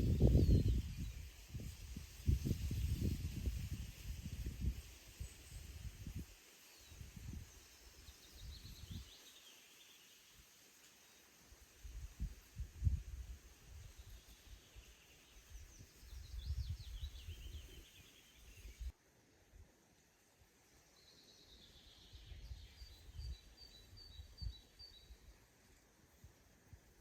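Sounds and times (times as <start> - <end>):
faint songbirds singing: 0.0 - 19.0, 19.8 - 27.0.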